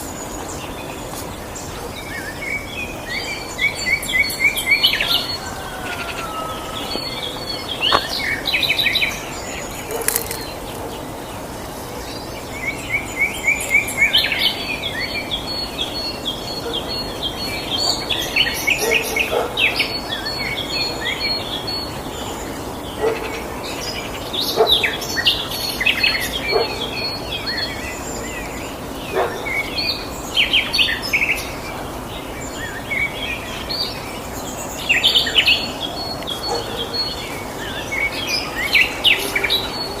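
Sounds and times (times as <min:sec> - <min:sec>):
birds chirping and trilling: 0:00.0 - 0:40.0.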